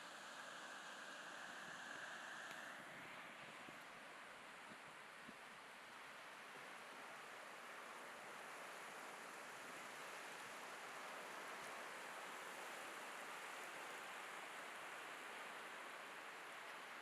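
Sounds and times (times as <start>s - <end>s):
faint ocean surf: 0.0s - 17.0s.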